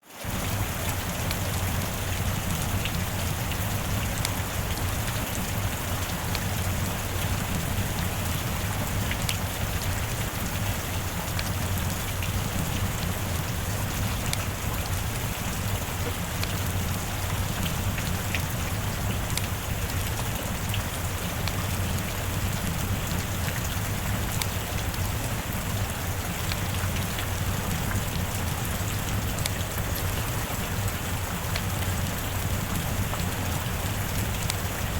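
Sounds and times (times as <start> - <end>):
steady rain hiss: 0.0 - 34.9
raindrop ticks: 0.1 - 34.9.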